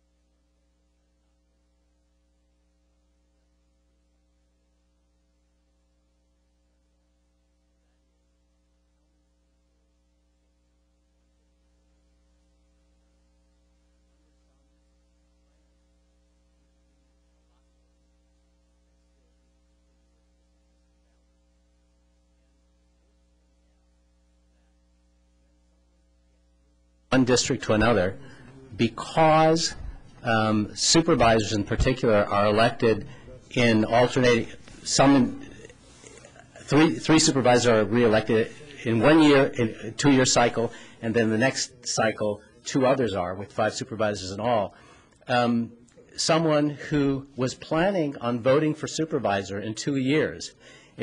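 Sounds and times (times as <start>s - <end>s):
faint mains hum: 0.0s - 51.0s.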